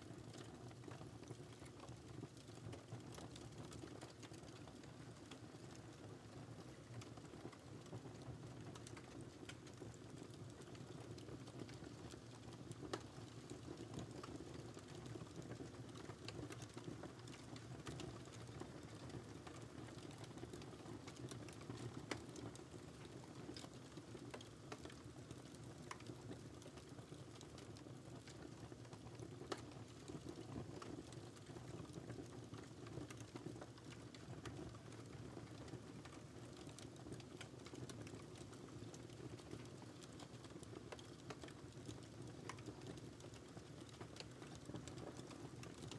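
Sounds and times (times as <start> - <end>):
wood fire crackling: 0.1 - 45.9.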